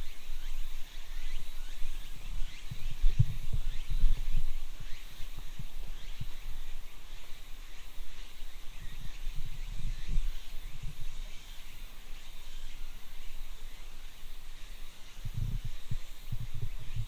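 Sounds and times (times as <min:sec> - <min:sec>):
birds calling: 0:00.0 - 0:17.0
insects calling: 0:00.0 - 0:17.0.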